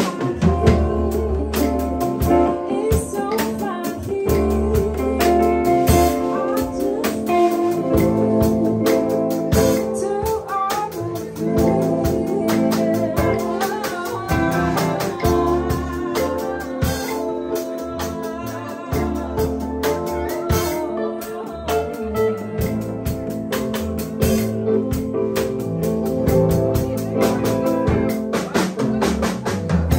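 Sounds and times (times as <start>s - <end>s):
drum kit beat: 0.0s - 29.9s
organ chords: 0.0s - 29.9s
person singing: 0.0s - 29.9s.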